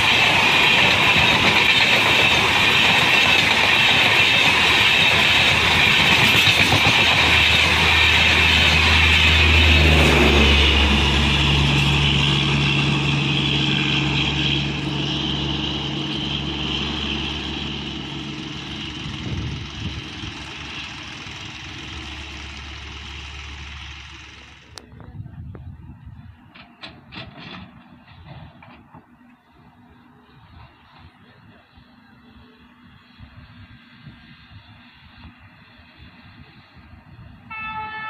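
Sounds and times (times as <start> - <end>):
train wheels rushing on rail: 0.0 - 38.0.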